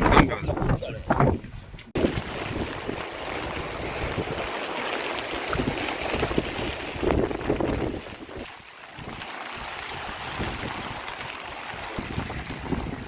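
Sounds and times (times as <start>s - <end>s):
wind buffeting microphone: 0.0s - 4.6s, 5.2s - 13.0s
moving water: 2.0s - 13.0s.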